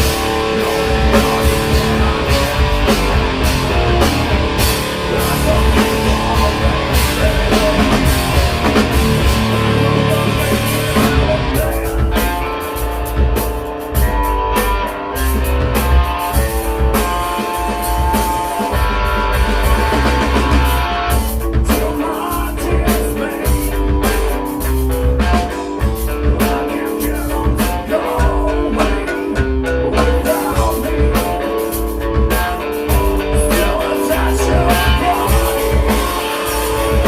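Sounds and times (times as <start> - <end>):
person singing: 0.0 - 13.0, 15.8 - 37.0
live rock band playing: 0.0 - 37.0.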